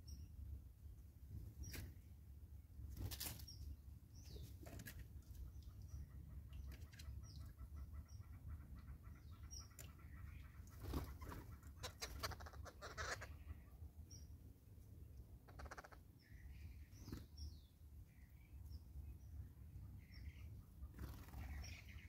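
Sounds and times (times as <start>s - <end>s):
small birds chirping: 0.0s - 0.4s, 1.3s - 2.2s, 2.9s - 14.5s, 15.2s - 22.0s.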